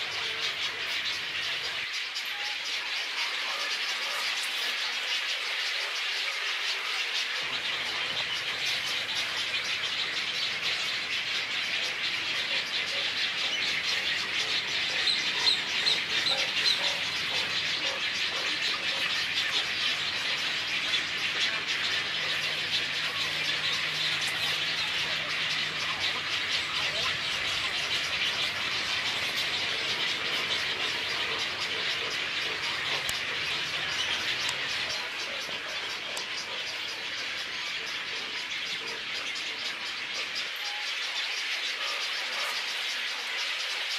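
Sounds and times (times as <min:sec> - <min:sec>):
birds chirping and calling: 0:00.0 - 0:43.9.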